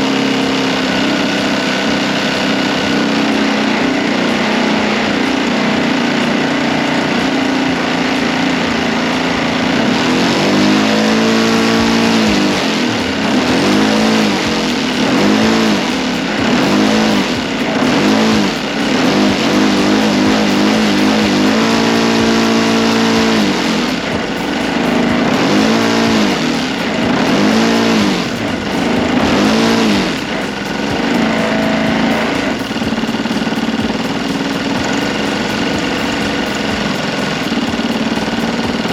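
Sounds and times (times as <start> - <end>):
model airplane engine revving: 0.0 - 38.9.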